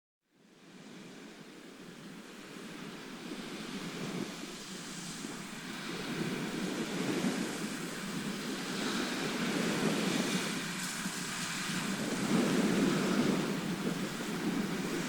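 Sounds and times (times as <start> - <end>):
waves washing: 0.6 - 15.0.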